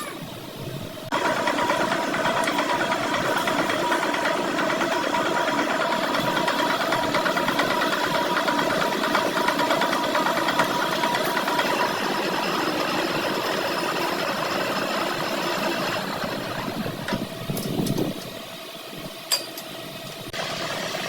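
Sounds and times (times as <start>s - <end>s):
workshop machine rattling and humming: 0.0s - 21.0s.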